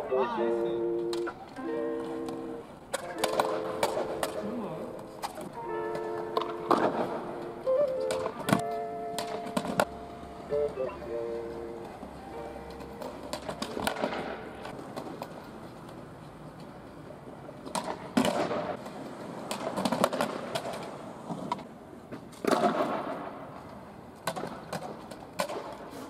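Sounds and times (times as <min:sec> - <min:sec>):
skateboard clacking on ground: 0:00.0 - 0:26.0
skateboard wheels rolling on pavement: 0:00.0 - 0:26.0.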